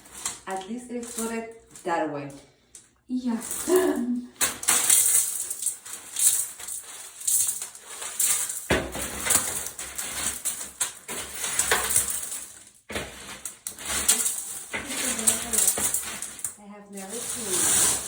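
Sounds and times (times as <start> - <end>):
broken glass being swept up: 0.0 - 1.4, 3.2 - 18.0.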